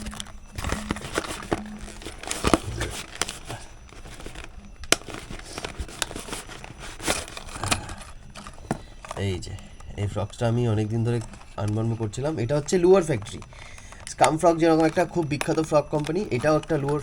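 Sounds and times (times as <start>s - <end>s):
packaging crinkling and rustling: 0.0s - 17.0s
sharp clicks and crackles: 0.0s - 17.0s.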